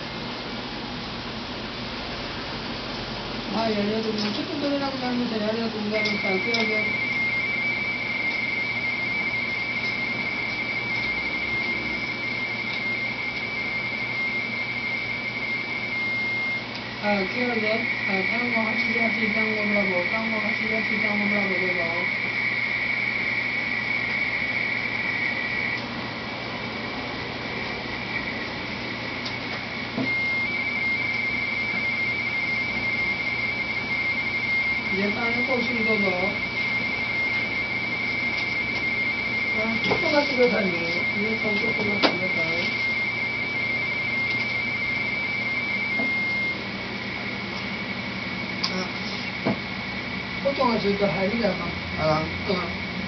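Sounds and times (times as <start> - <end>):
receiver hiss: 0.0 - 53.0
warbling two-tone data signal: 3.5 - 53.0.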